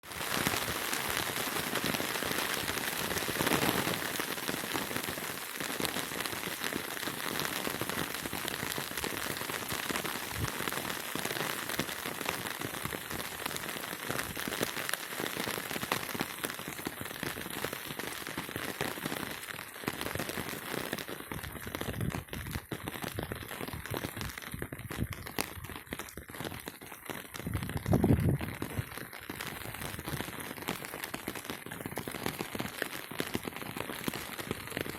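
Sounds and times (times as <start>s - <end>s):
rain falling: 0.0s - 20.4s, 21.0s - 34.9s.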